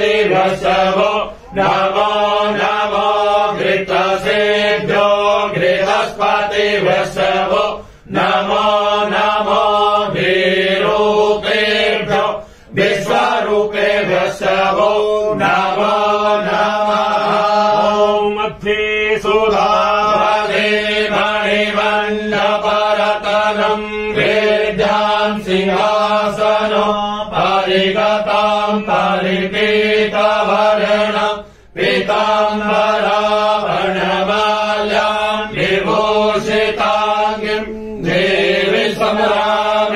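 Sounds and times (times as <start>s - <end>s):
men chanting a mantra: 0.0s - 39.9s.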